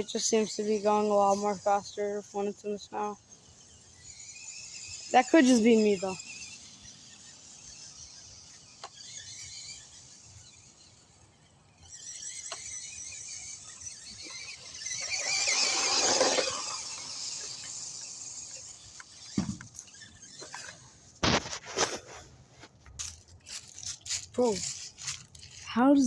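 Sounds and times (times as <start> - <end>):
toy truck motor whining: 0.0 - 26.0.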